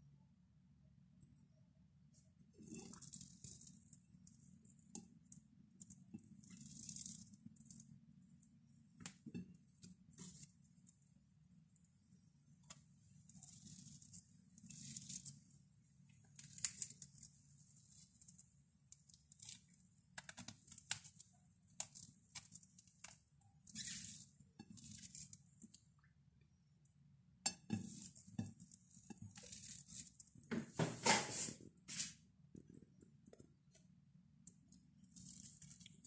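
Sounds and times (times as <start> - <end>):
fritter crackling and rustling: 2.5 - 26.0, 27.4 - 32.1, 34.3 - 36.0.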